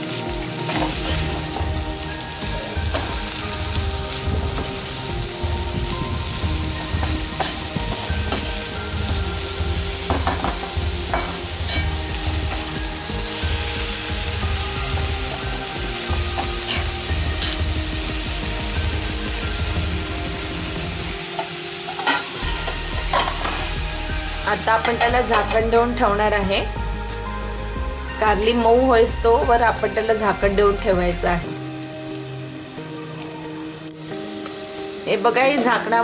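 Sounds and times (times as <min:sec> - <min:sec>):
vegetables sizzling in oil: 0:00.0 - 0:36.0.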